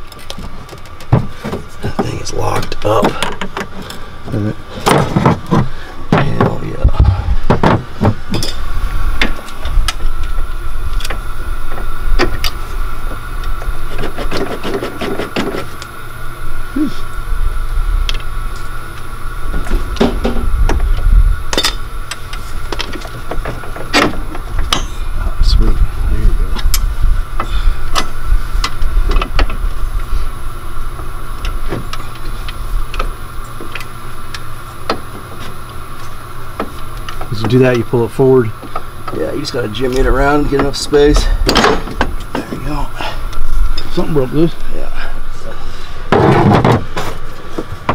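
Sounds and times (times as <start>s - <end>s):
steady low rumble: 0.0s - 14.4s, 15.6s - 47.9s.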